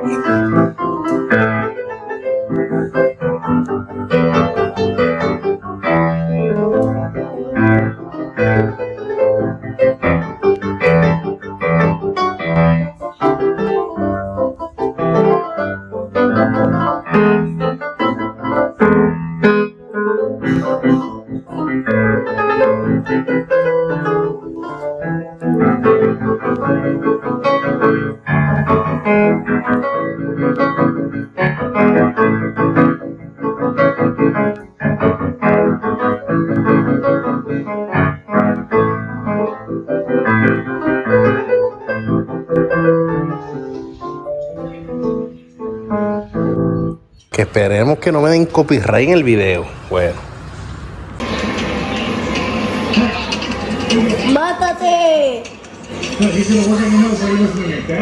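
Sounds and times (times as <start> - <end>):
piano playing: 0.0 - 58.0.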